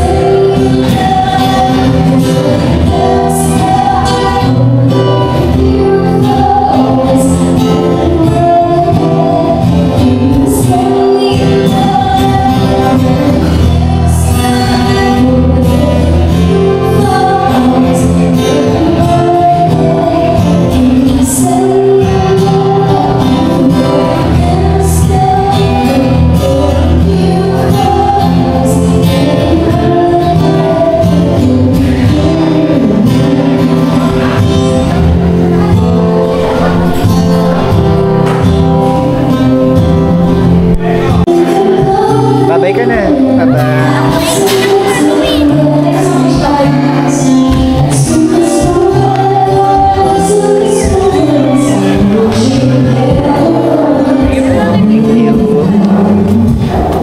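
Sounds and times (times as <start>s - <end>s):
person singing: 0.0s - 57.0s
steady bass: 0.0s - 57.0s.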